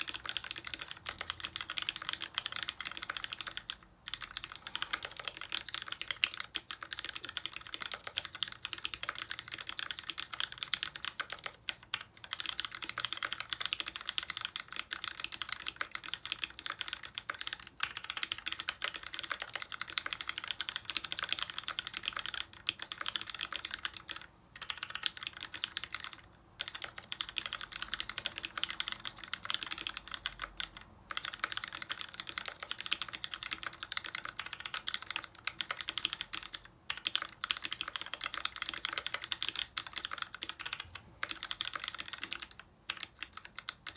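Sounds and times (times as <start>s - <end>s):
fast mechanical keyboard typing: 0.0s - 43.9s.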